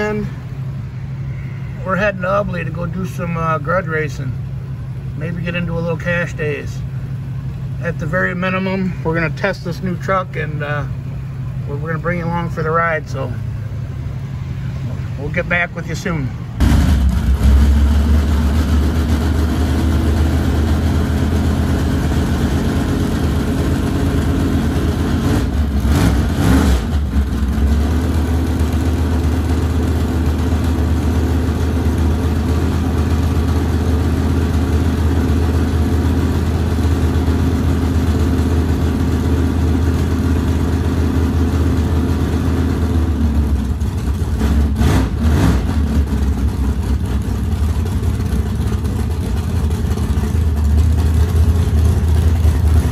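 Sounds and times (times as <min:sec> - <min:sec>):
engine idling and revving: 0:00.0 - 0:52.9.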